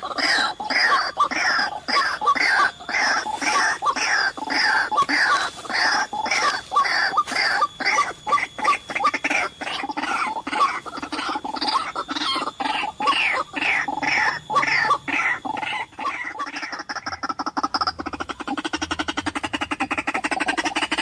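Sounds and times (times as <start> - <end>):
waterhen calling harsh notes: 0.0 - 21.0.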